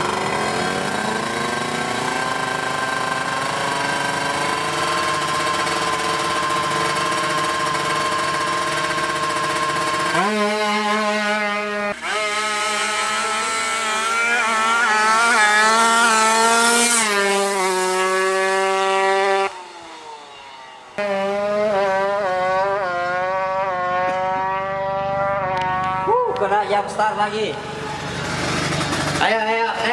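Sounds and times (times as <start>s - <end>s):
two-stroke motorcycle engine revving: 0.0s - 29.9s.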